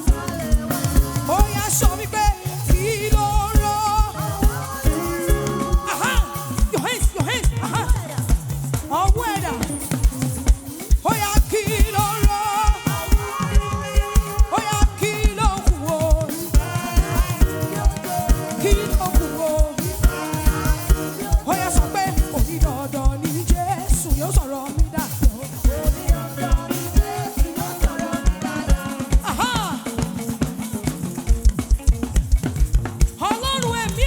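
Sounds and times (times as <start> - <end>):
drum kit beat: 0.0 - 34.0
gospel band playing upbeat groove: 0.0 - 34.0.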